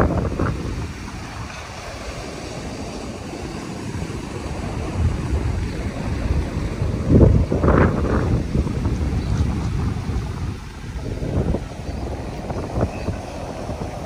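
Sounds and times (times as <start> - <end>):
surf breaking on a reef: 0.0 - 14.0
wind buffeting microphone: 0.0 - 14.0.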